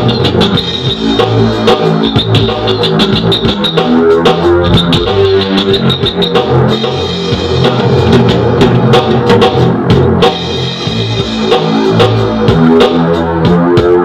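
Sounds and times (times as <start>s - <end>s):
drum beat with percussive hits: 0.0s - 14.0s
electronic music with bassline: 0.0s - 14.0s.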